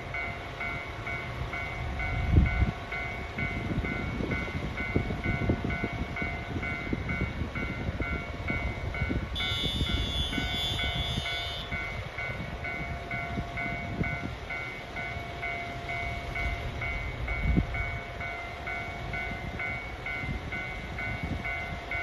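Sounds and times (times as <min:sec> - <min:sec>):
repeating electronic bell: 0:00.2 - 0:22.0.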